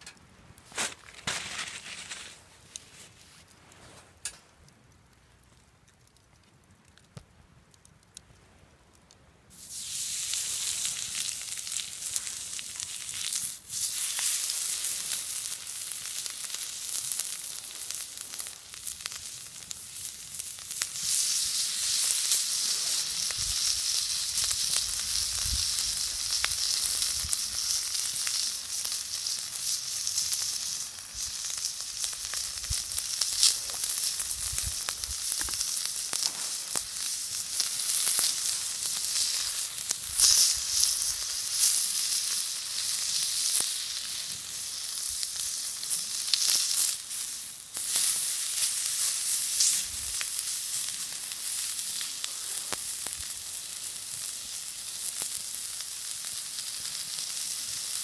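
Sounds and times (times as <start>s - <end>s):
meat sizzling on hot plate: 9.5s - 58.0s.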